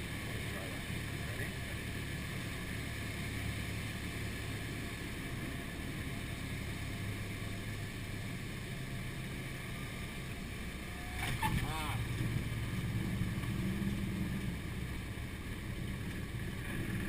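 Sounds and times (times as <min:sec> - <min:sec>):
plane engine drone: 0:00.0 - 0:17.0.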